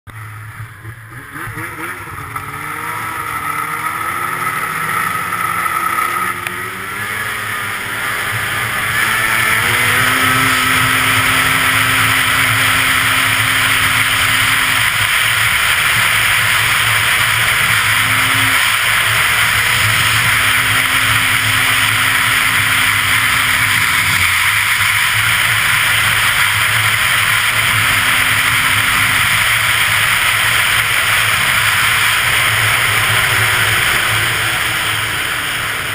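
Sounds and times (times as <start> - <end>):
snowmobile engine revving: 0.1 - 35.9.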